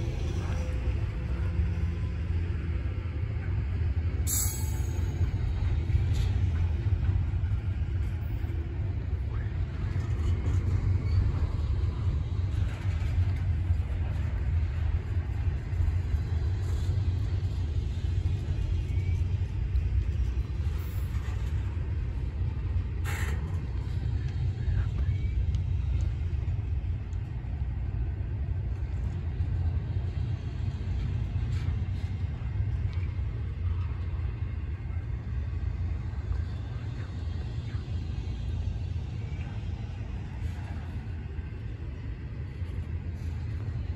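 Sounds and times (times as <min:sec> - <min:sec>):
freight train rumbling on rails: 0:00.0 - 0:43.9.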